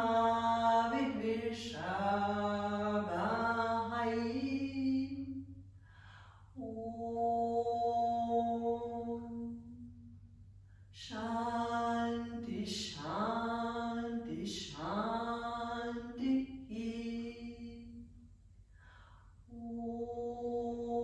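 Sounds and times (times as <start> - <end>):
woman chanting: 0.0 - 5.4, 6.6 - 9.7, 11.0 - 18.0, 19.5 - 21.0.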